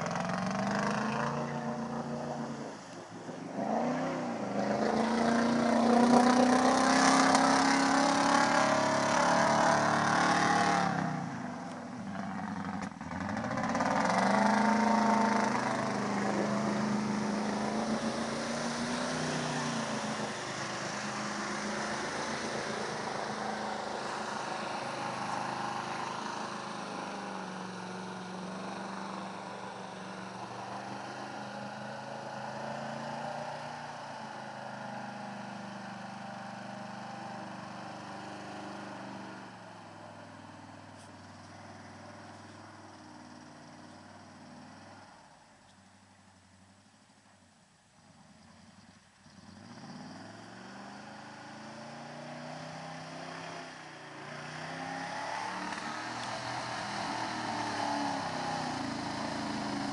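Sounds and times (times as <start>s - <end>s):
truck engine revving: 0.0s - 45.1s, 49.3s - 59.9s.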